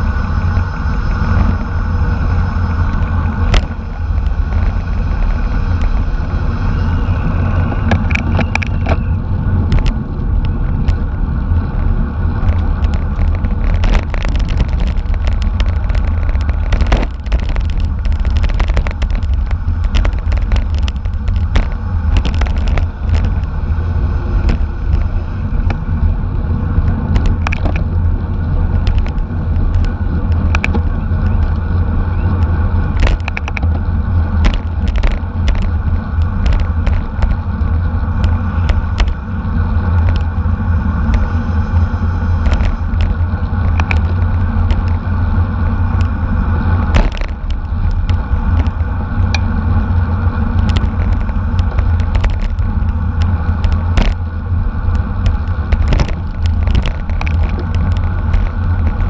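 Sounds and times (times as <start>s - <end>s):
bicycle clicks and rattles: 0.0s - 59.0s
bicycle road noise: 0.0s - 59.0s
wind rumble: 0.0s - 59.0s.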